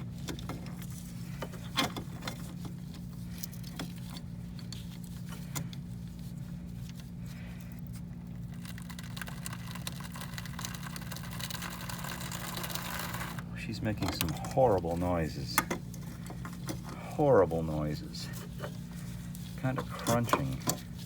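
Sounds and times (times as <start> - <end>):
oil filter crunching and creaking: 0.0 - 21.0
steady low hum: 0.0 - 21.0.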